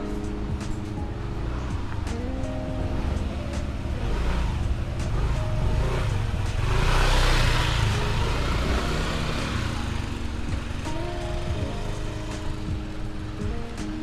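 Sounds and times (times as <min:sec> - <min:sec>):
motor scooter passing by: 0:01.2 - 0:14.0.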